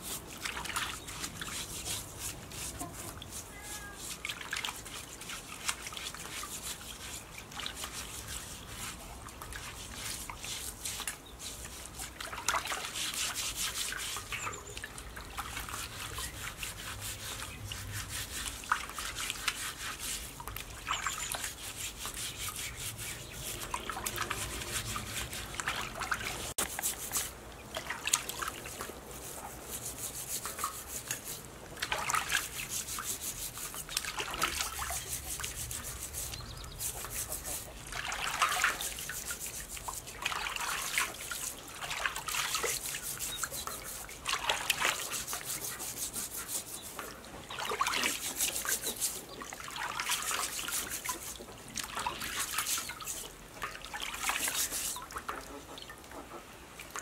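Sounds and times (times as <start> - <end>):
steel wool scrubbing skin: 0.0 - 14.7, 15.5 - 27.4, 28.2 - 55.4
water sloshing in steel basin: 0.0 - 57.0.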